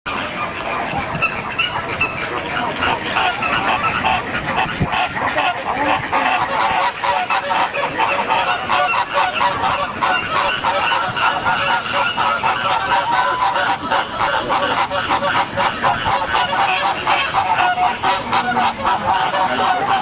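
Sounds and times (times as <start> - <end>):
flamingos honking: 0.1 - 20.0.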